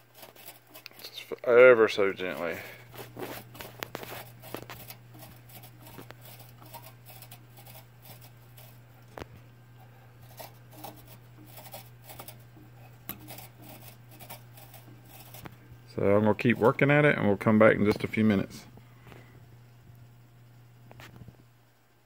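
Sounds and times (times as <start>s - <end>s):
heater clicking and scraping in boiler: 0.0s - 18.6s.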